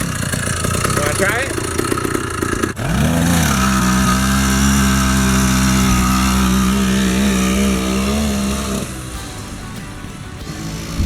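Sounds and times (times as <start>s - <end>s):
two-stroke engine at high revs: 0.0s - 11.0s.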